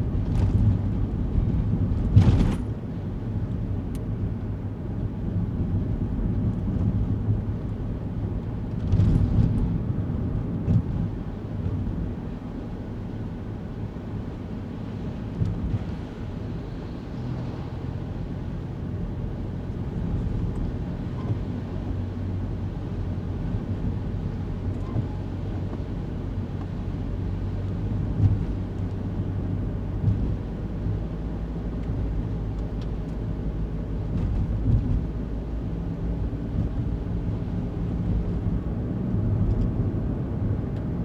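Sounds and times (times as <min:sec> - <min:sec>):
car engine and tyre drone: 0:00.0 - 0:41.0.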